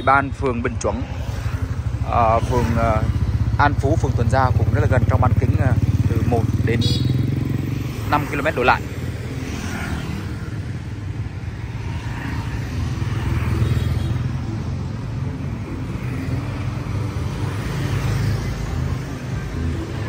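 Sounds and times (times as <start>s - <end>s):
motorbikes and cars passing: 0.0s - 20.0s.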